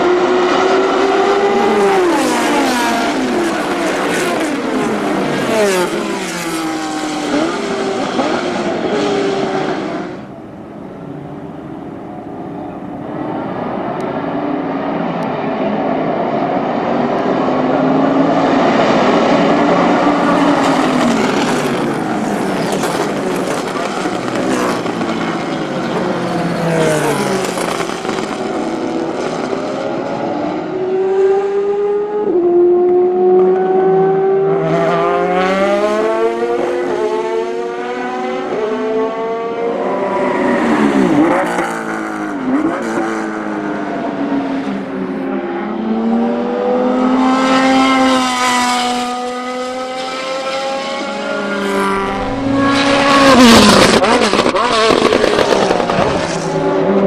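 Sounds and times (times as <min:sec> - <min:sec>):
race cars passing at speed: 0:00.0 - 0:57.0.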